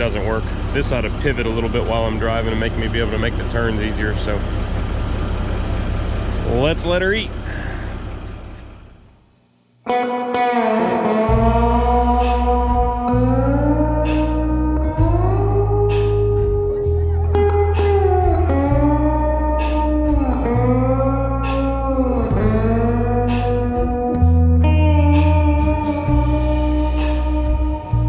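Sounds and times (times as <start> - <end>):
slide guitar: 0.0 - 5.5, 9.9 - 28.0
bass: 0.0 - 9.3, 11.0 - 28.0.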